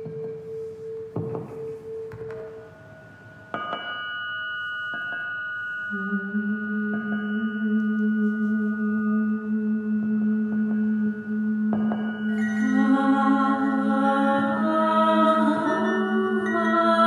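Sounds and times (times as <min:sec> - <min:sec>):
low steady tone: 0:00.0 - 0:17.0
singing bowl ringing: 0:00.0 - 0:17.0.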